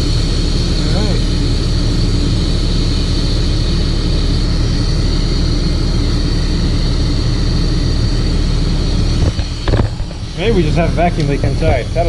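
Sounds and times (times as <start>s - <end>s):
diesel engine idling: 0.0s - 12.0s
high whine of vacuum generator: 0.0s - 12.0s
steady air hiss: 0.0s - 12.0s.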